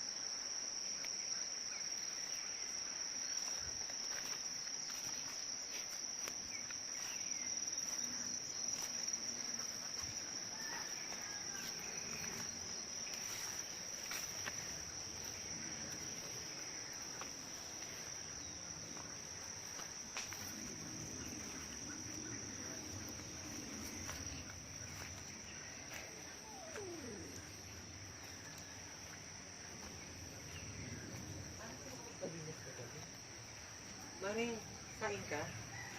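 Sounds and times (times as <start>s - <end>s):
insect chorus trilling: 0.0s - 35.9s.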